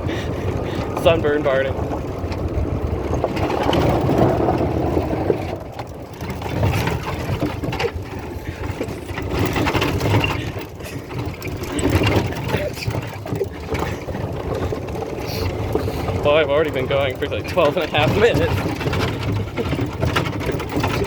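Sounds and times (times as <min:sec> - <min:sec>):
cart body rattling: 0:00.0 - 0:21.0
golf cart driving: 0:00.0 - 0:21.0.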